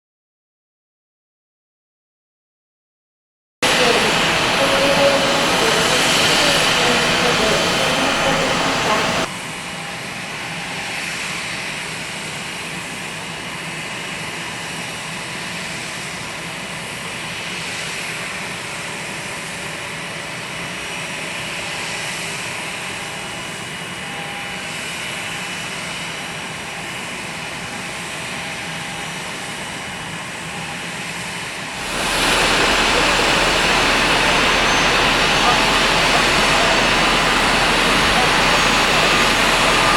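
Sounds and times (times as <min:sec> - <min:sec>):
jet engines whining: 0:03.6 - 0:39.9.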